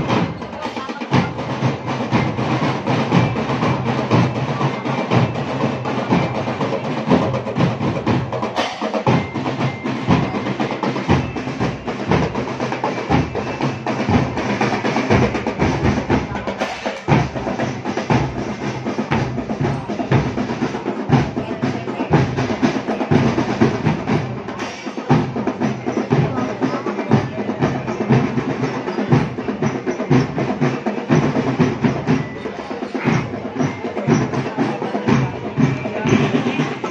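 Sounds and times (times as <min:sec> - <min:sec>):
marching drums playing: 0:00.0 - 0:36.9.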